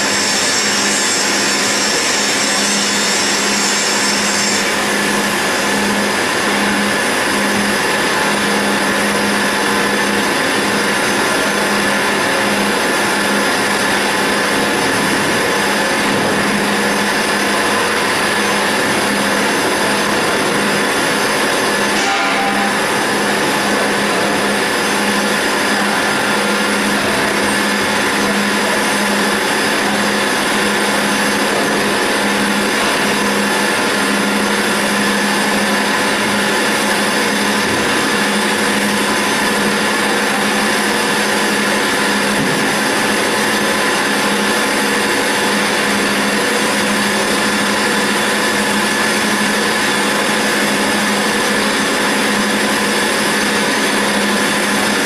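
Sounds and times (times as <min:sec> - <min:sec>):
lathe machine hum and whine: 0:00.0 - 0:55.0.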